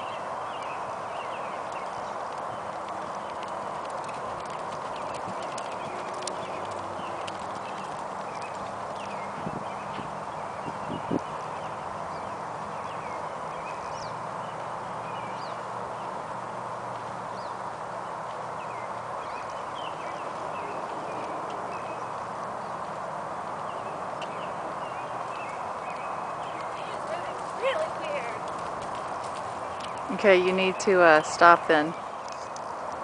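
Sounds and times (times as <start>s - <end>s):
hoofbeats on soft dirt: 0.0s - 32.8s.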